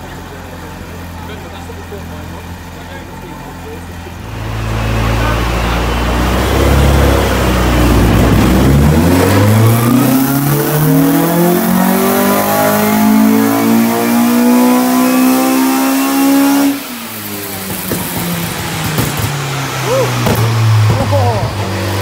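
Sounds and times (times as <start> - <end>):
car engine revving at full throttle: 0.0 - 22.0.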